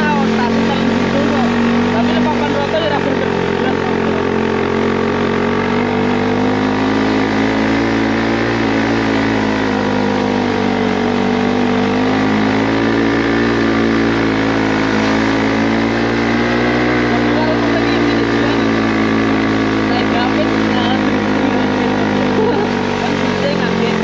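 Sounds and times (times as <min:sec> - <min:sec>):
motorbike engine running: 0:00.0 - 0:24.0.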